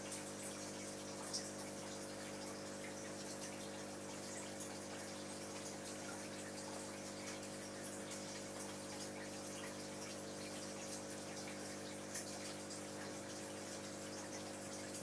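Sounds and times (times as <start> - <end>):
water trickling and bubbling: 0.0 - 15.0.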